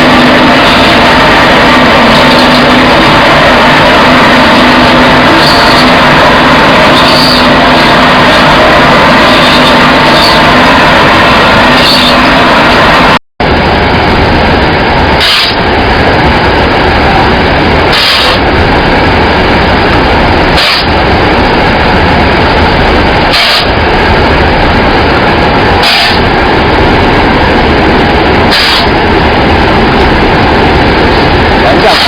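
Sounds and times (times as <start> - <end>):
machinery running: 0.0 - 32.0.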